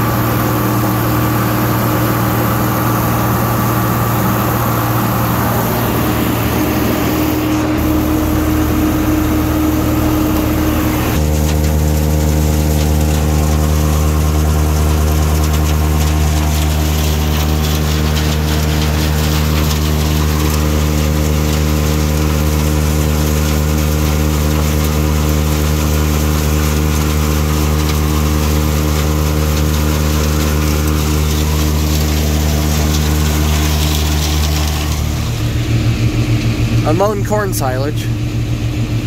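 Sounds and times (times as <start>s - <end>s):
blower fan rushing hiss: 0.0s - 39.0s
tractor diesel engine running: 0.0s - 39.0s.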